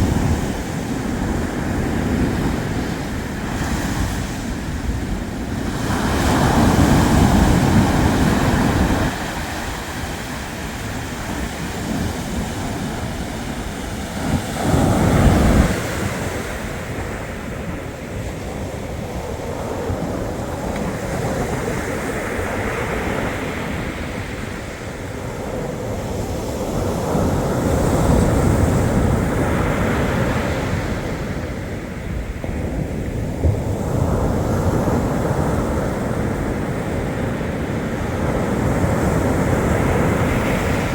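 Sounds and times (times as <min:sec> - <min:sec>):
surf washing on shore: 0:00.0 - 0:40.9
wind buffeting microphone: 0:00.0 - 0:40.9.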